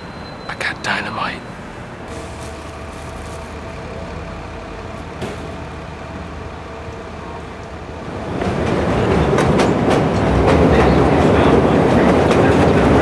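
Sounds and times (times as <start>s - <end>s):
steady background hum: 0.0s - 13.0s
train rumble approaching: 0.0s - 13.0s.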